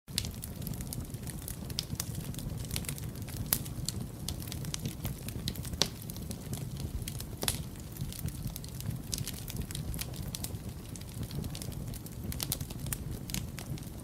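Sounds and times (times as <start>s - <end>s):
low rumble of flames: 0.1s - 14.0s
wood fire crackling and popping: 0.1s - 14.0s.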